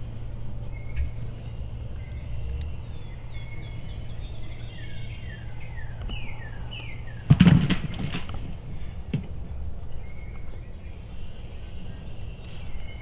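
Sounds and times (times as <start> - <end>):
low outdoor rumble: 0.0 - 13.0
songbird singing: 0.0 - 13.0.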